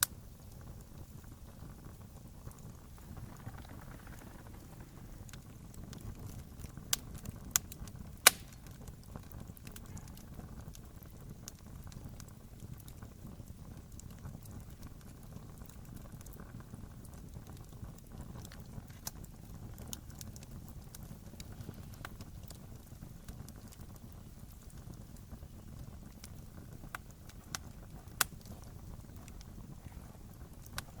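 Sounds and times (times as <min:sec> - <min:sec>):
campfire flame rumble: 0:00.0 - 0:31.0
fire crackling: 0:00.0 - 0:31.0
sharp pops of fire: 0:00.0 - 0:31.0.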